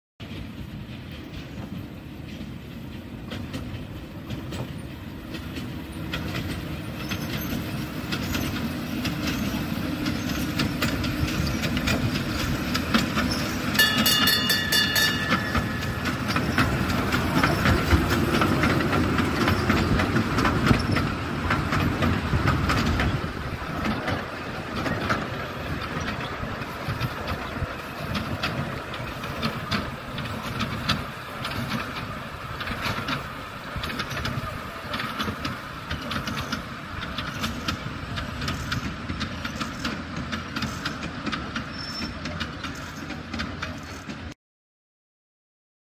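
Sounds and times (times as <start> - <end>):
miniature train rumbling on track: 0.2 - 44.4
wheels clicking over rail joints: 0.2 - 44.4.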